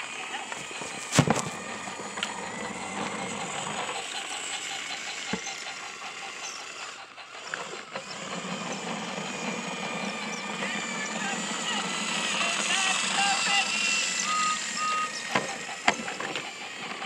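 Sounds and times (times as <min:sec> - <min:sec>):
toy train motor whirring: 0:00.0 - 0:17.0.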